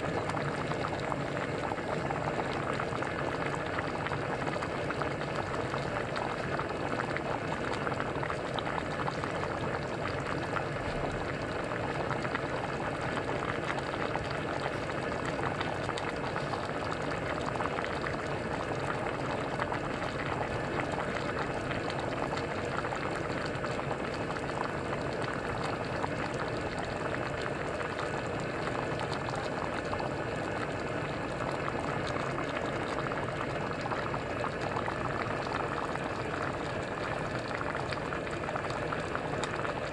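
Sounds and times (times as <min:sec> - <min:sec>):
porridge bubbling and popping: 0:00.0 - 0:39.9.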